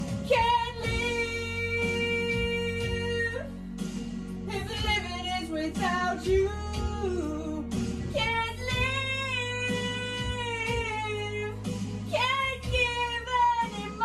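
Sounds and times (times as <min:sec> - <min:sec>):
person singing: 0:00.0 - 0:03.6, 0:04.5 - 0:14.0.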